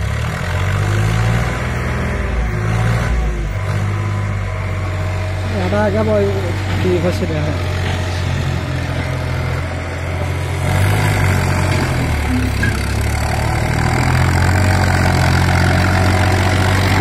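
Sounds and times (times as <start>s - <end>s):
tractor diesel engine working hard: 0.0s - 17.0s.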